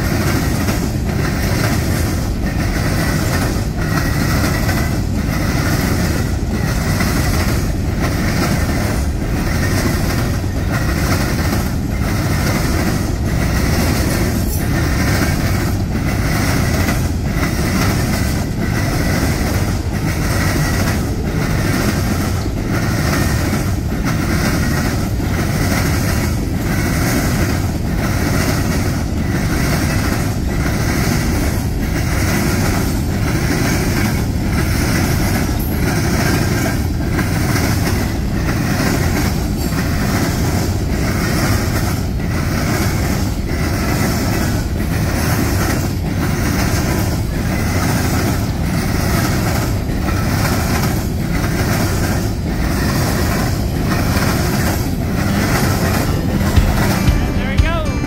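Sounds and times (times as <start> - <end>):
freight train wheels clattering on rails: 0.0 - 58.0.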